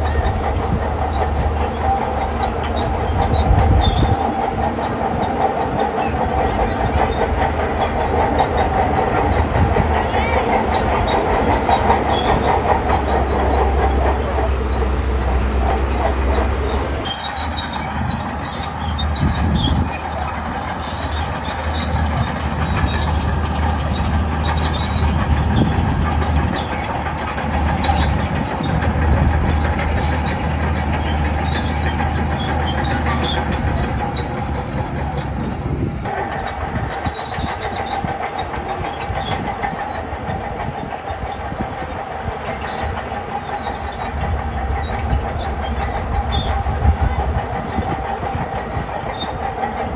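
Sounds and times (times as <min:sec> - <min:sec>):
diesel engine running: 0:00.0 - 0:49.9
steel tracks clanking: 0:00.0 - 0:49.9.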